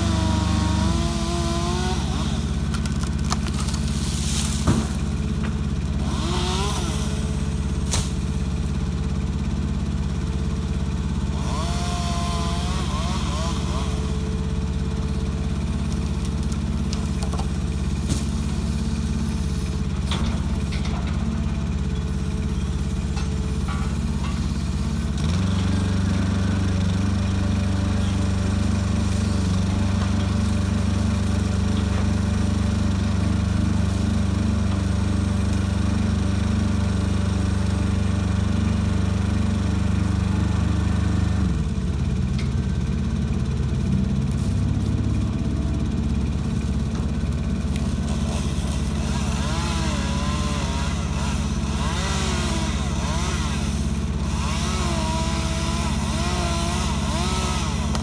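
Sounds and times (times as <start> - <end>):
crane engine and hydraulics: 0.0 - 58.0.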